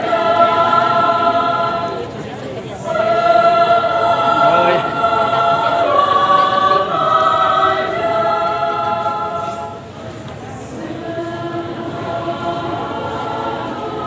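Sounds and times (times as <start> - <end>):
women's choir singing in harmony: 0.0 - 14.0.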